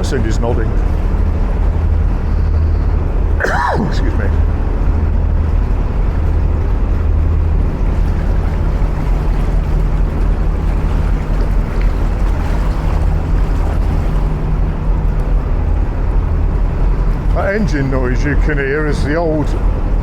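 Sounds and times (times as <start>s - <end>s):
diesel boat engine droning: 0.0s - 20.0s.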